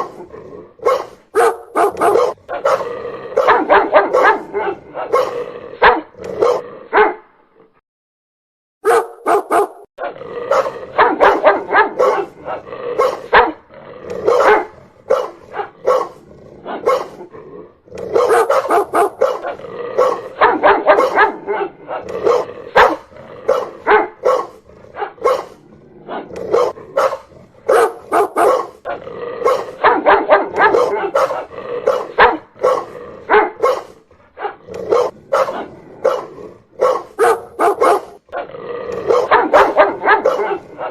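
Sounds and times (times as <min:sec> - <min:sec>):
dog barking: 0:00.0 - 0:00.2, 0:00.8 - 0:07.3, 0:08.8 - 0:17.3, 0:18.1 - 0:40.9.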